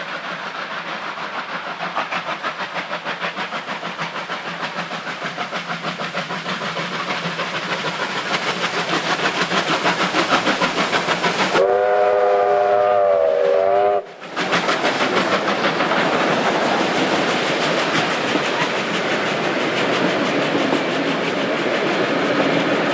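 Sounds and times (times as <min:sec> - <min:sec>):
steam locomotive exhaust beats: 0:00.0 - 0:22.9.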